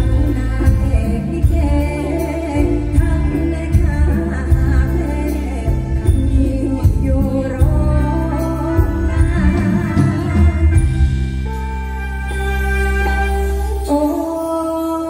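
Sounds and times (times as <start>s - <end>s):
heavy bass: 0.0s - 13.9s
woman singing live: 0.0s - 15.0s.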